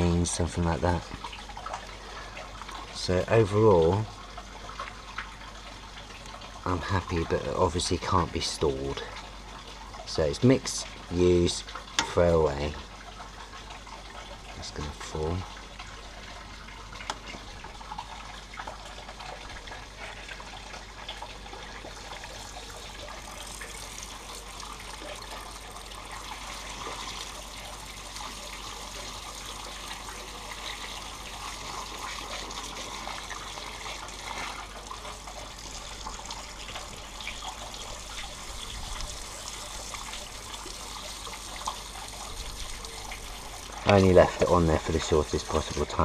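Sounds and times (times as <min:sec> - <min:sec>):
water trickling: 0:00.0 - 0:46.0.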